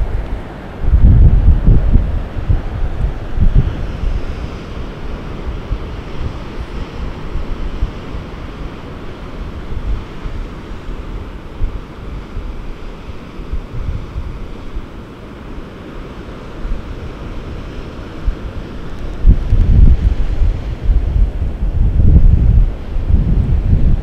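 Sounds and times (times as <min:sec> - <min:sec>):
surf breaking over rocks: 0:00.0 - 0:24.0
wind buffeting microphone: 0:00.0 - 0:24.0.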